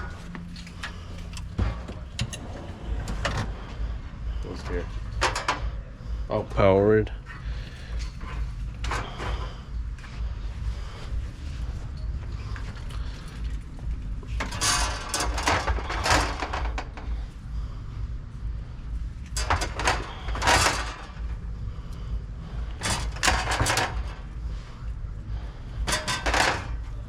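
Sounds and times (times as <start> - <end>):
rustling and scraping of products: 0.0 - 6.5, 7.1 - 27.0
steady low hum: 0.0 - 27.0.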